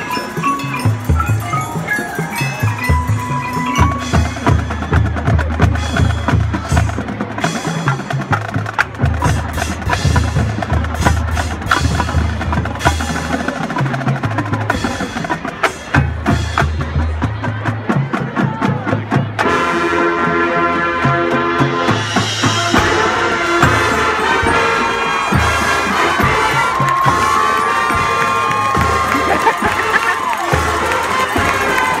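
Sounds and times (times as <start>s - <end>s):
drum and mallet percussion: 0.0s - 19.7s, 21.0s - 32.0s
marching band playing jazz: 0.0s - 32.0s.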